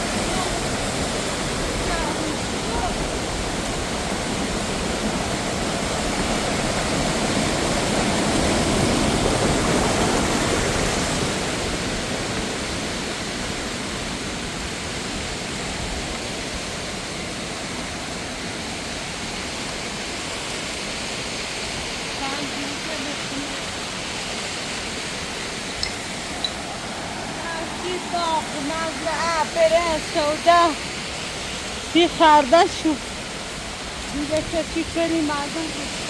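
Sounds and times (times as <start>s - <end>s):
fast-flowing mountain water: 0.0s - 36.0s.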